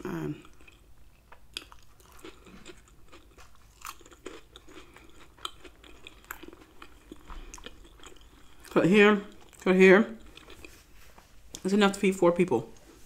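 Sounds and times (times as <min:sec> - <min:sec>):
food crunching: 0:00.1 - 0:11.7
person chewing food: 0:00.1 - 0:11.7.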